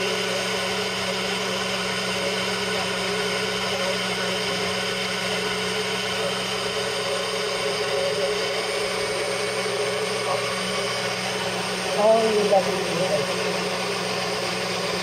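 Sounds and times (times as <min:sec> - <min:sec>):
blender motor humming: 0:00.0 - 0:15.0.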